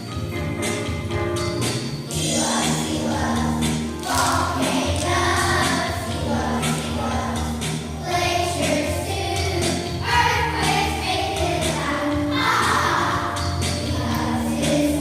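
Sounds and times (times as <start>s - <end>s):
musical accompaniment: 0.0s - 15.0s
children singing in unison: 2.1s - 15.0s.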